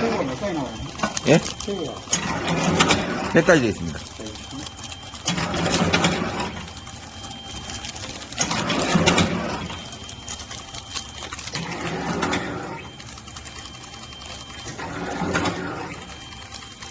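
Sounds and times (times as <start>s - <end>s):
mechanical sealing cycle: 0.0s - 16.9s
packaging machine hum: 0.0s - 16.9s.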